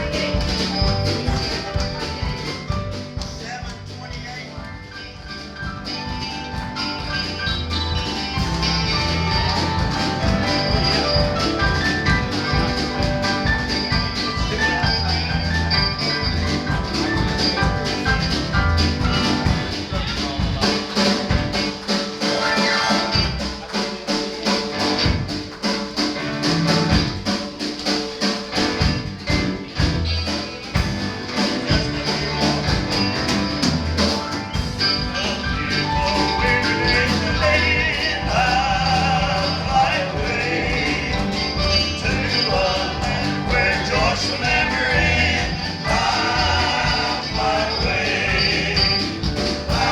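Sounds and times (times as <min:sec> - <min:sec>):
instrumental music with drum beat: 0:00.0 - 0:49.9.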